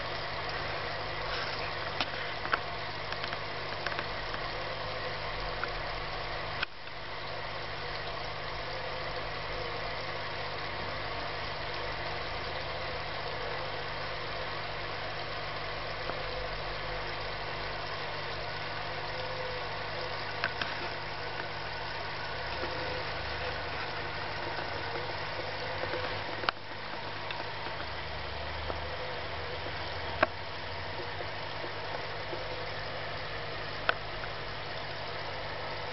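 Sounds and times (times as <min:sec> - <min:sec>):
aquarium filter pump humming: 0:00.0 - 0:35.9.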